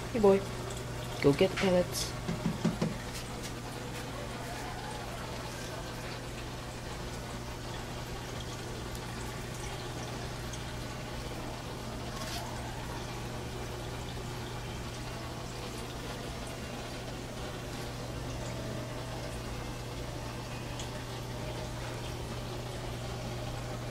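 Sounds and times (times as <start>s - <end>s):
water trickling into tank: 0.0s - 23.9s.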